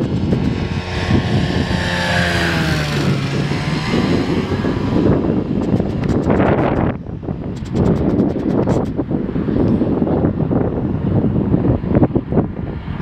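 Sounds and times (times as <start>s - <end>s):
light aircraft engine flying past: 0.0s - 13.0s
wind rumbling on microphone: 0.0s - 13.0s.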